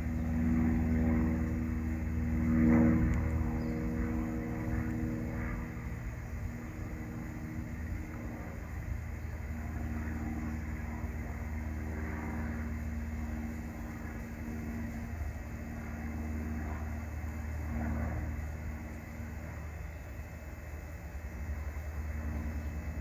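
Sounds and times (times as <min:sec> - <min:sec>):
airplane engine and propeller droning: 0:00.0 - 0:23.0.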